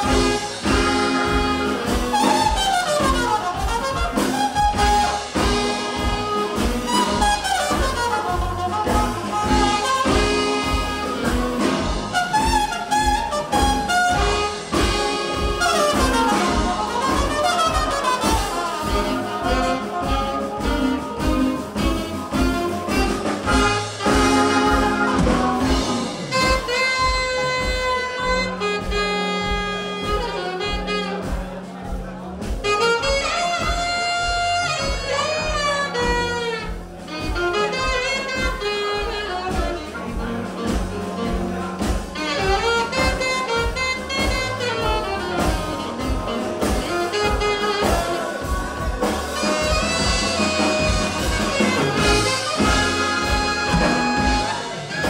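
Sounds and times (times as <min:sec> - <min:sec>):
jazz band playing: 0:00.0 - 0:55.0
saxophone melody: 0:00.0 - 0:55.0.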